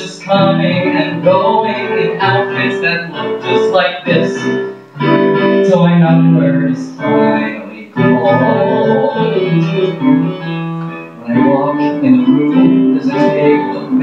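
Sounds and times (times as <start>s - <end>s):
man singing into a microphone: 0.0s - 14.0s
piano accompaniment: 0.0s - 14.0s.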